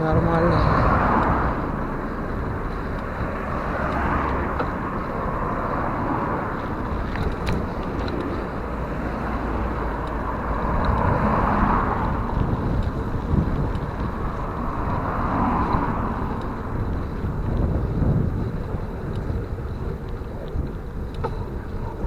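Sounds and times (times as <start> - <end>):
low road rumble: 0.0 - 22.0
wind rushing on microphone: 0.0 - 22.0.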